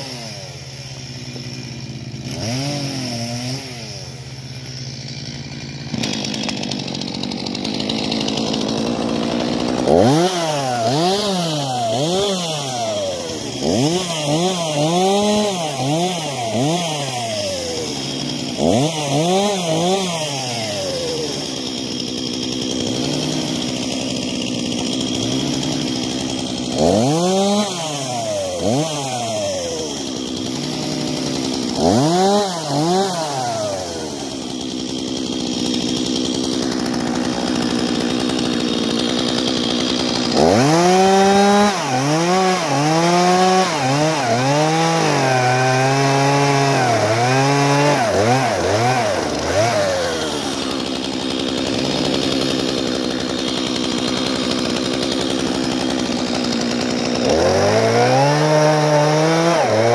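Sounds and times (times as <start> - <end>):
chainsaw idling and revving: 0.0 - 59.9.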